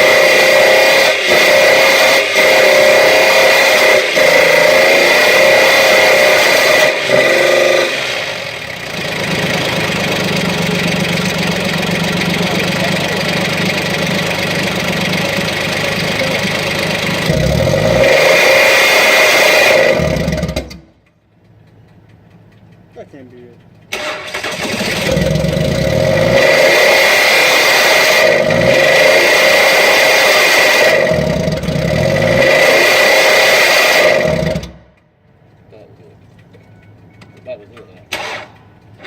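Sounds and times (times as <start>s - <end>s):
car engine revving: 0.0s - 22.9s, 23.7s - 35.1s.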